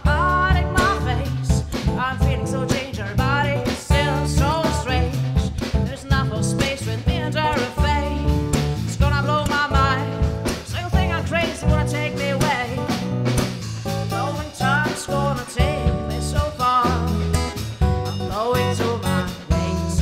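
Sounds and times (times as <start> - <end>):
person singing with vibrato: 0.0 - 13.2, 13.8 - 20.0.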